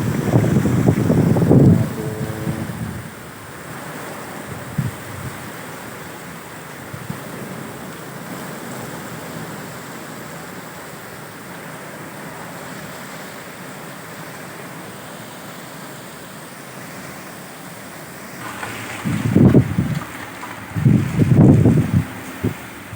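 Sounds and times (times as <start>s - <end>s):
heavy rain in strong wind: 0.0s - 22.9s.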